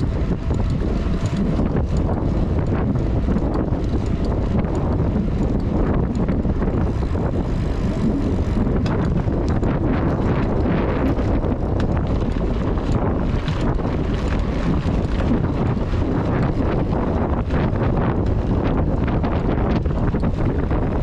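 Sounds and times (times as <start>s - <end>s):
small clicks and rattles: 0.0s - 21.0s
wind rumble on microphone: 0.0s - 21.0s.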